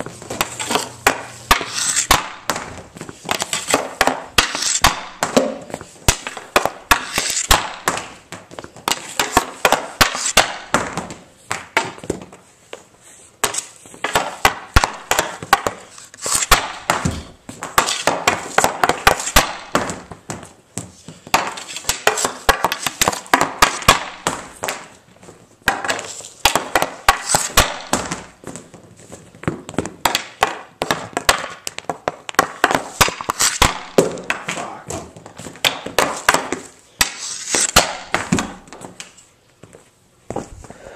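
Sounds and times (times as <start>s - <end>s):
hockey stick slapping concrete: 0.0s - 12.4s, 13.4s - 39.2s
pucks banging into wall: 0.0s - 12.4s, 13.4s - 39.2s
stick striking puck: 0.0s - 12.4s, 13.4s - 28.8s, 29.4s - 39.2s.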